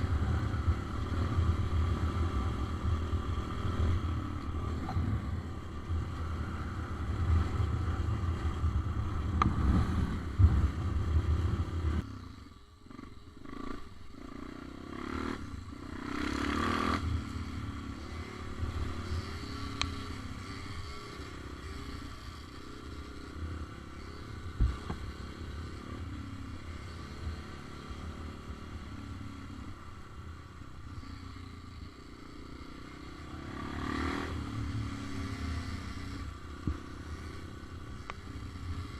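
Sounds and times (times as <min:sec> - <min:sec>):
small motorcycle engine revving: 0:00.0 - 0:38.9.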